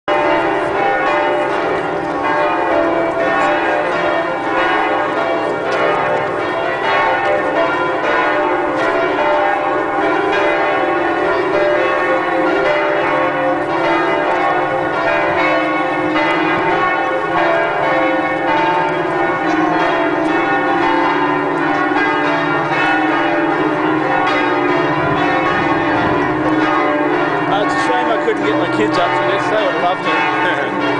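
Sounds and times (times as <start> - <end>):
church bells pealing: 0.1 - 30.9.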